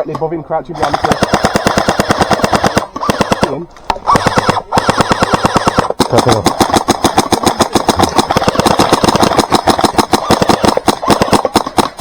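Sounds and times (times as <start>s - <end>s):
airsoft gun firing full auto: 0.8s - 12.0s.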